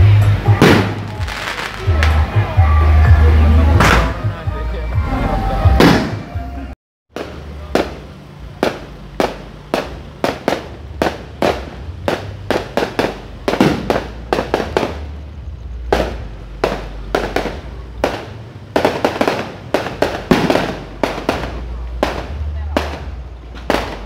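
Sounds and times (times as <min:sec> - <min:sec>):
fireworks bangs: 0:00.3 - 0:02.6, 0:03.7 - 0:04.4, 0:05.7 - 0:06.4, 0:07.1 - 0:24.0.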